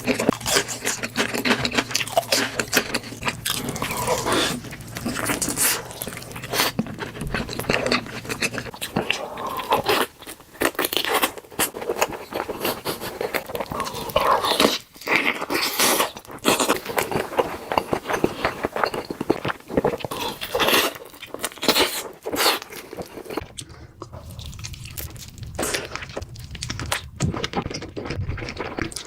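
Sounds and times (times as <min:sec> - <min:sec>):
crunchy chewing of fried chicken: 0:00.0 - 0:29.0.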